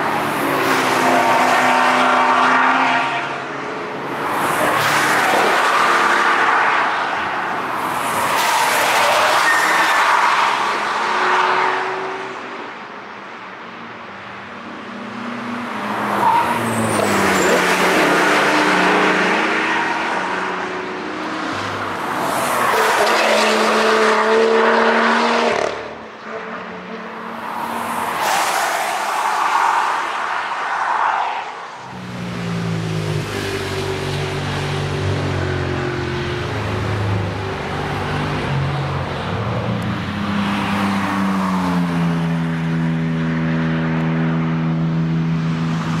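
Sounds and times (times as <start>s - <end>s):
race cars passing at speed: 0.0s - 46.0s.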